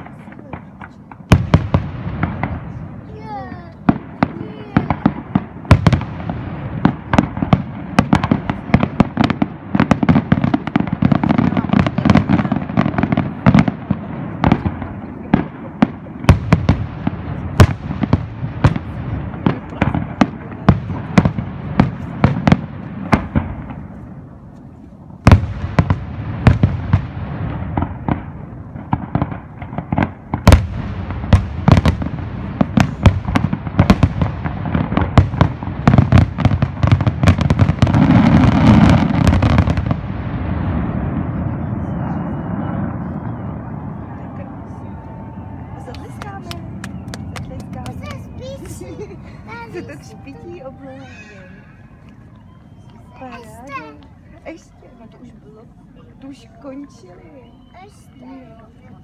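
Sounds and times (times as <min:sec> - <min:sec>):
fireworks bangs: 0:00.0 - 0:55.4.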